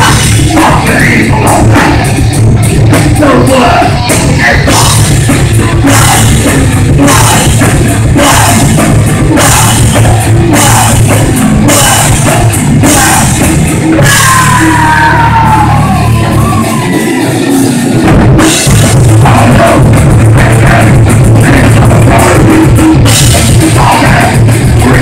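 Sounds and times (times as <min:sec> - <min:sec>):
metal band playing live: 0:00.0 - 0:25.0.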